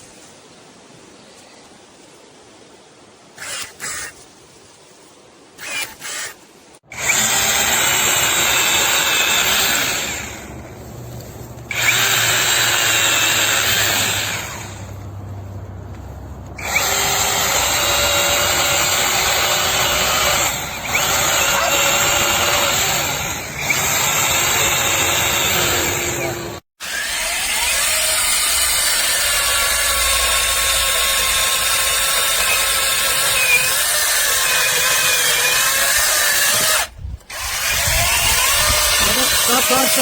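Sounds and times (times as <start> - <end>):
electric chainsaw whining: 3.4 - 4.1, 5.6 - 15.2, 16.6 - 40.0.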